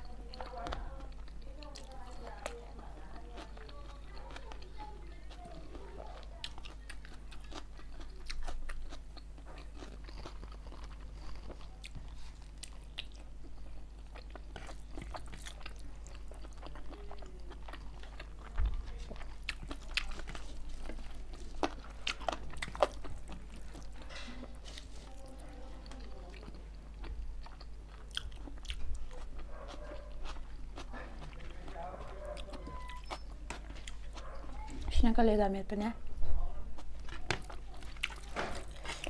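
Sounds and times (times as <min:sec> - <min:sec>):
chewing with crunches: 0:00.0 - 0:35.0, 0:36.7 - 0:39.0.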